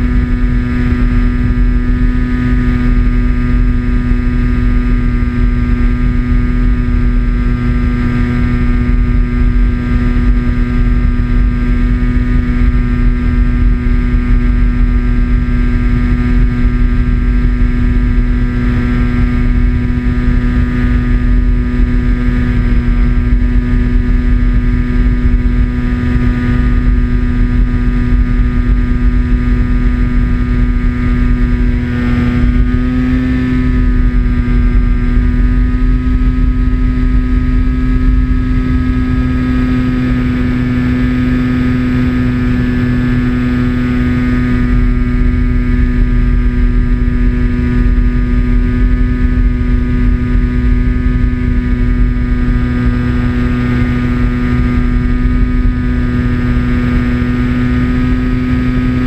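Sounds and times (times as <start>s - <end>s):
low wind rumble: 0.0s - 59.0s
model aeroplane motor and propeller: 0.0s - 59.0s.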